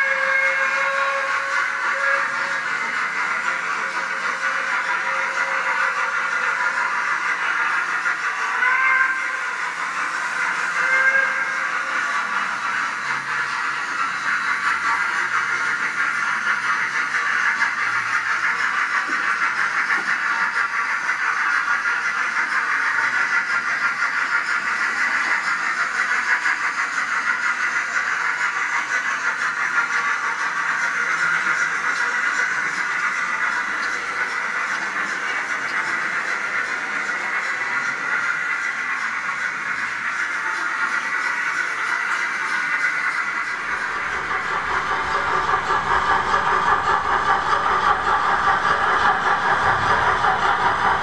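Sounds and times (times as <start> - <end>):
model steam locomotive hissing: 0.0 - 51.0.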